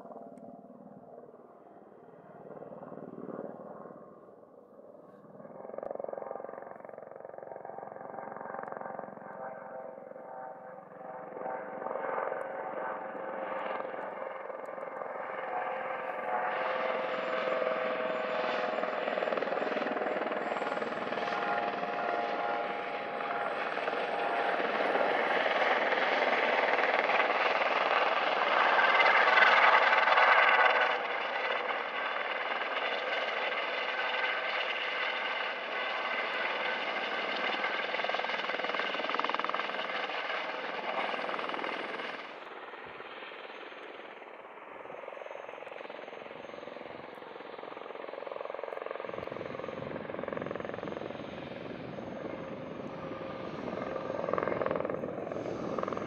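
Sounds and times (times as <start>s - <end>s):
helicopter rotors: 0.0s - 56.0s
helicopter turbine whine: 0.0s - 56.0s.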